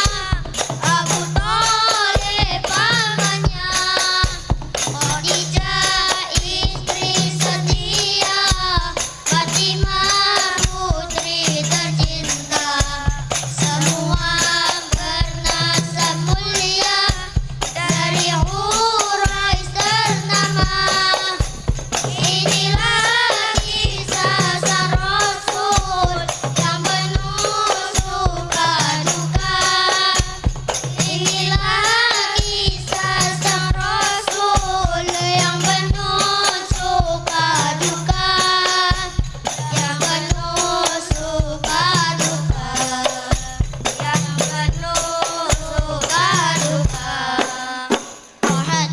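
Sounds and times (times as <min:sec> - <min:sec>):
hand drums: 0:00.0 - 0:48.9
person singing devotional melody: 0:00.0 - 0:48.9
tambourine: 0:00.0 - 0:48.9.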